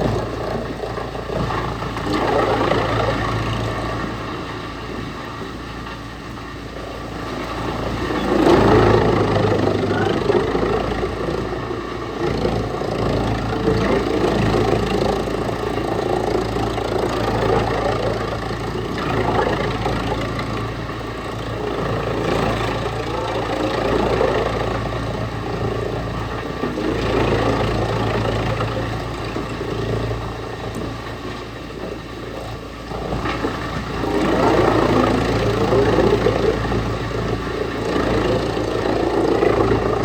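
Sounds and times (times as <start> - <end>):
wood chipper engine hum: 0.0 - 40.0.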